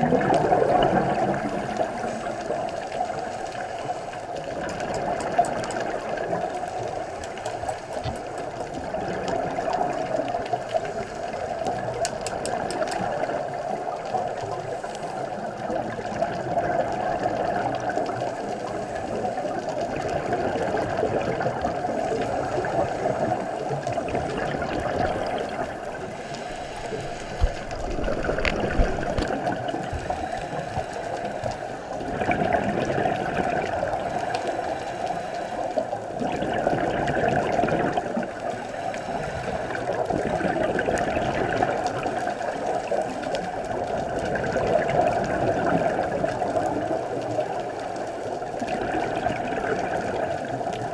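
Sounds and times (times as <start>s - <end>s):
muffled underwater rush: 0.0s - 50.9s
scuba regulator bubbling: 0.0s - 50.9s.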